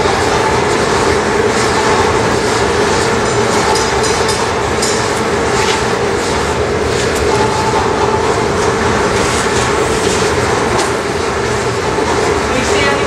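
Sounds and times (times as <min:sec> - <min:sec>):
constant hum: 0:00.0 - 0:13.0
furnace burners rushing: 0:00.0 - 0:13.0.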